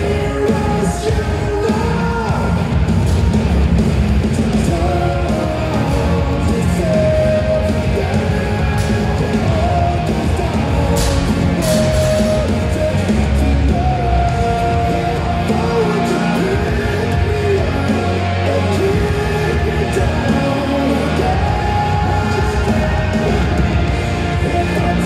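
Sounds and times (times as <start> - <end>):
rock music: 0.0 - 25.0.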